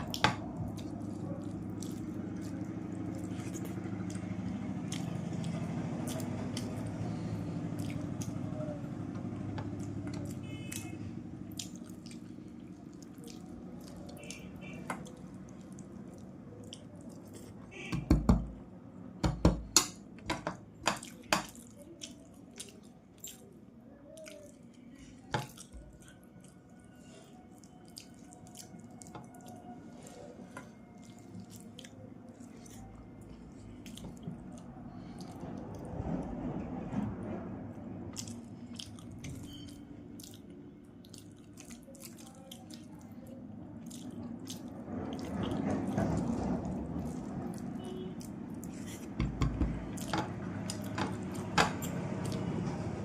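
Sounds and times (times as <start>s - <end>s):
wet smacking and chewing: 0.0s - 8.6s, 9.6s - 17.7s, 21.0s - 35.9s, 38.1s - 52.6s.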